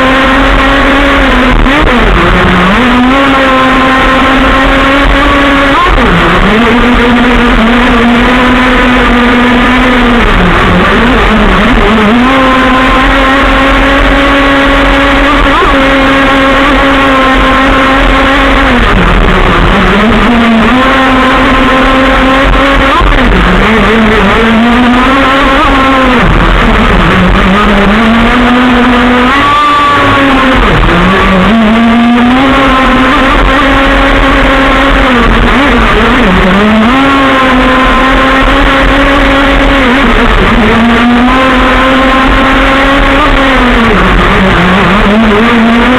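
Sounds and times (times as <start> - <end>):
two-stroke model engine revving: 0.0 - 45.9.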